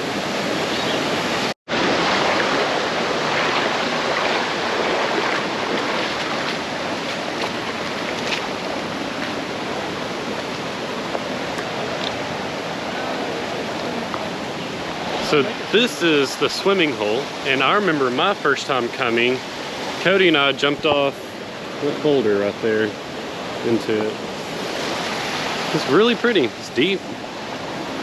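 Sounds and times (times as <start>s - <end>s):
creek water rushing over rocks: 0.0s - 28.0s.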